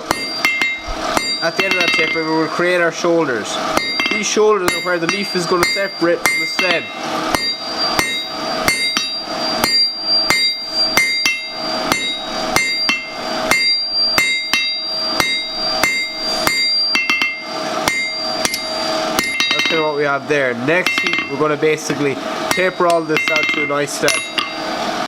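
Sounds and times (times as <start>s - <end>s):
hammer striking steel on anvil: 0.0s - 2.4s, 3.7s - 20.1s, 20.7s - 21.5s, 22.4s - 24.7s
anvil ringing: 0.0s - 2.5s, 3.7s - 21.6s, 22.4s - 24.7s.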